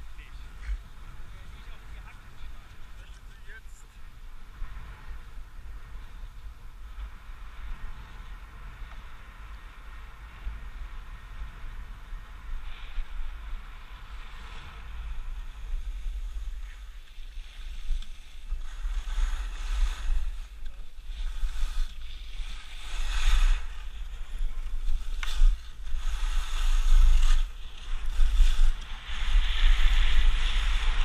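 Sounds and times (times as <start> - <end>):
skis carving over snow: 0.0 - 31.0
wind buffeting microphone: 0.0 - 31.0.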